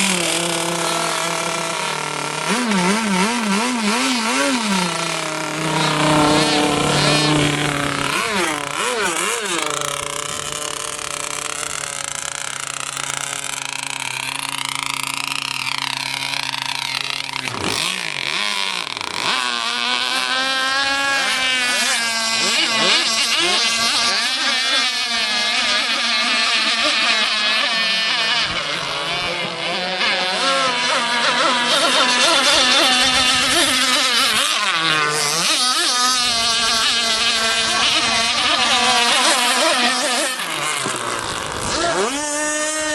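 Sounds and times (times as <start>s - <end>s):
model boat motors whining: 0.0s - 42.9s.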